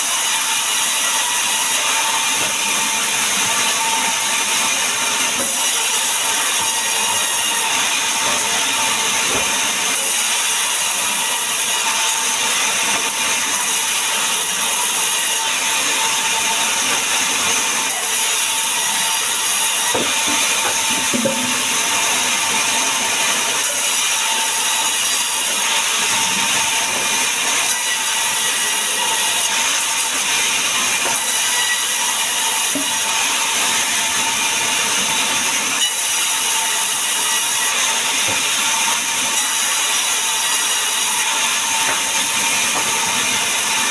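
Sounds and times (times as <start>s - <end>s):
band saw cutting log: 0.0s - 43.9s.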